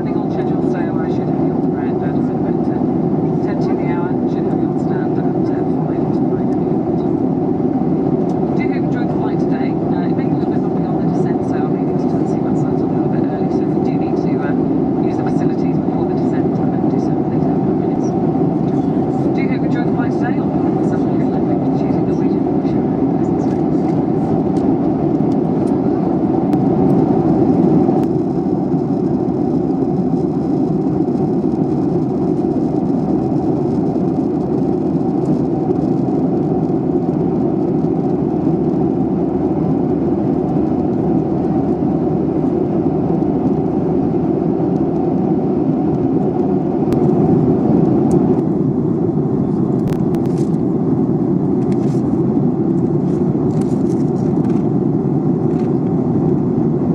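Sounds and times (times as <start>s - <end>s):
jet engines and airflow rushing: 0.0s - 56.9s.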